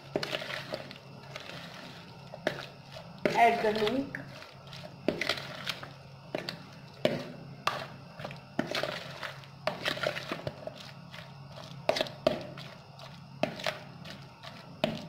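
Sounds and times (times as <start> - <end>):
wet squishing of batter: 0.0 - 15.0
spoon scraping plastic bowl: 0.1 - 15.0.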